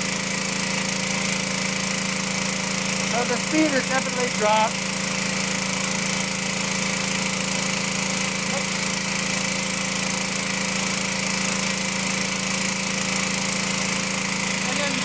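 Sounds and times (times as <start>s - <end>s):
lawnmower engine under load: 0.0s - 15.0s.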